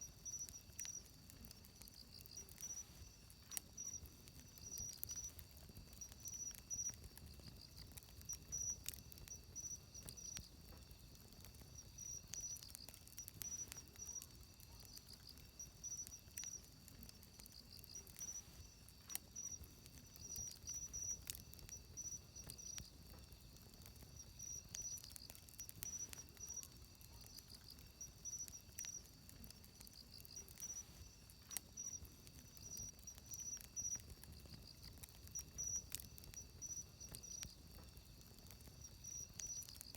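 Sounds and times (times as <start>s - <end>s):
insects chirping: 0.0s - 39.9s
wood fire crackling: 0.0s - 39.9s.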